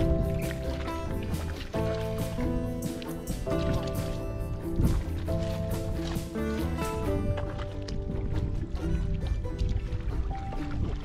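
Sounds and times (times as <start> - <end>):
background music held chords: 0.0 - 11.0.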